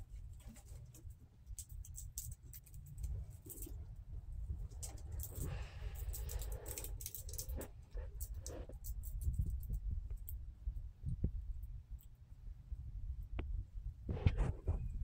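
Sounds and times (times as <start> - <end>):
squirrel gnawing a nut: 0.0 - 12.4
steady low rumble: 0.0 - 15.0.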